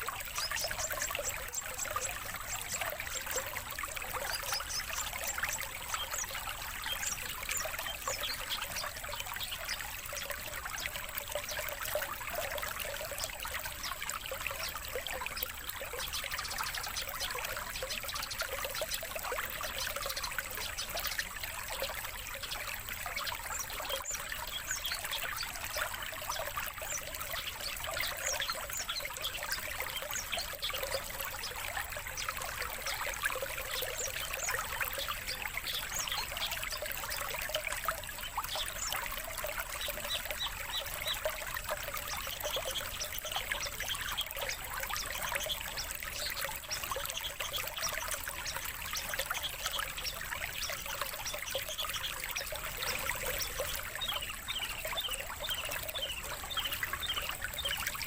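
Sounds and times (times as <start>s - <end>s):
songbirds chirping: 0.0s - 58.0s
trickling water: 0.0s - 58.0s.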